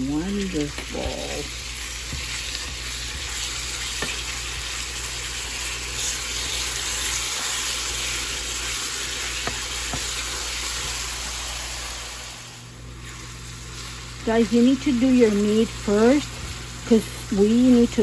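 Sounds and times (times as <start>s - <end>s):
ground beef sizzling in a pan: 0.0s - 18.0s.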